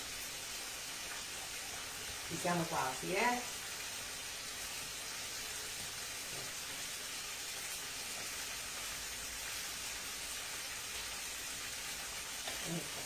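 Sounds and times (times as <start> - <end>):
frying pan sizzling: 0.0 - 13.0.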